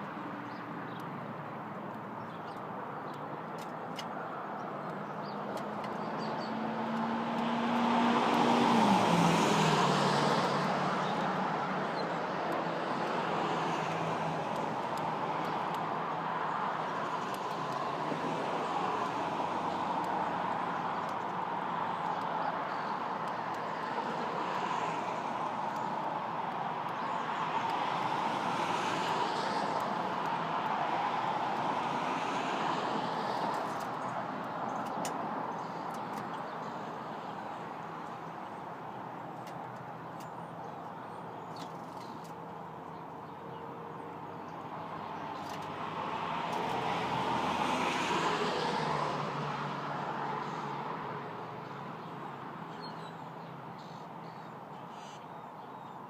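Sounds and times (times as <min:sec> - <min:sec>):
vehicles passing by: 0:00.0 - 0:56.0.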